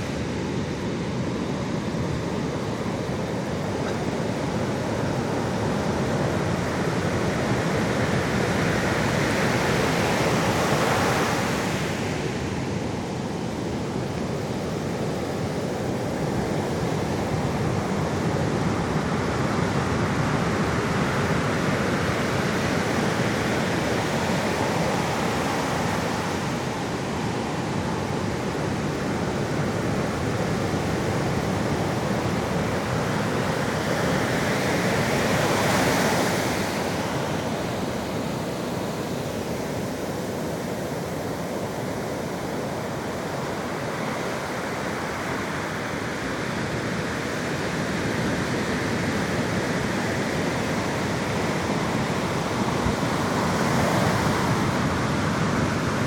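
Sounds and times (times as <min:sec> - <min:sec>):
sea waves washing ashore: 0:00.0 - 0:56.0.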